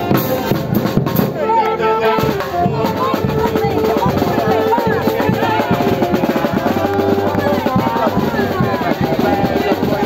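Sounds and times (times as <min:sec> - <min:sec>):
drums keeping a beat: 0:00.0 - 0:10.0
wind band playing a tune: 0:00.0 - 0:10.0.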